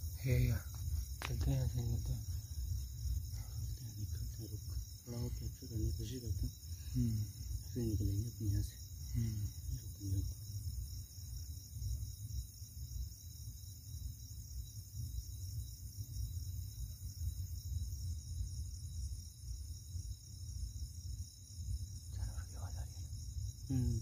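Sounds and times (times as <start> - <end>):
crickets and insects trilling: 0.0 - 24.0.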